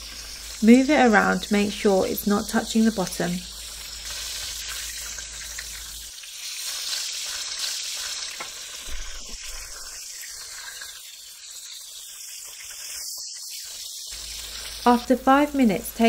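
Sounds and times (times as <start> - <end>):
oil sizzling in a wok: 0.0 - 16.0.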